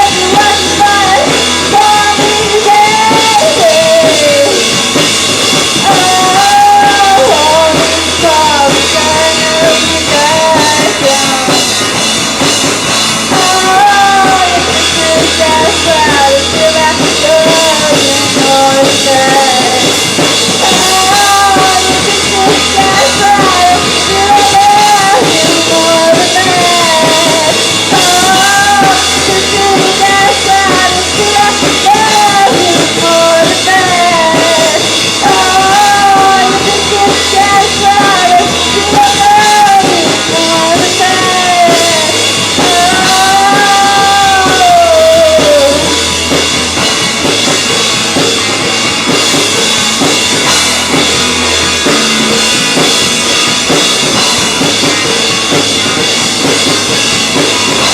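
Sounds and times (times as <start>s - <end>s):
live punk rock band: 0.0s - 57.9s.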